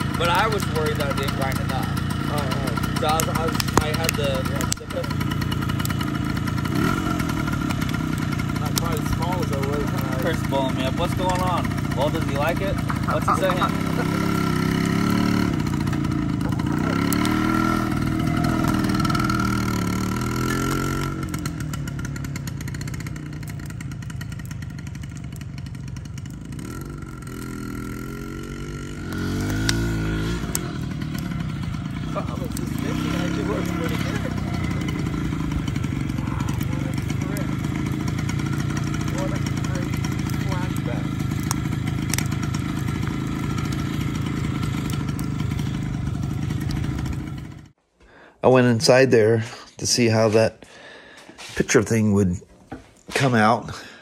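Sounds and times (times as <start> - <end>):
minibike engine revving: 0.0 - 47.8.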